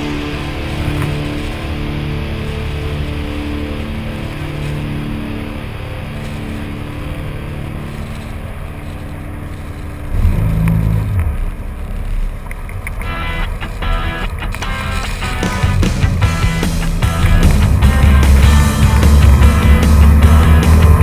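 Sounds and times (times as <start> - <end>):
vehicle engine running and revving: 0.0 - 21.0.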